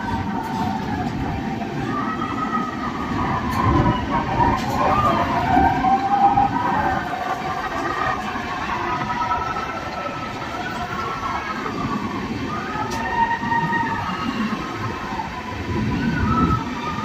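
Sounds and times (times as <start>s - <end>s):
train rolling rumble: 0.0s - 17.0s
wheels squealing on rails: 0.0s - 17.0s.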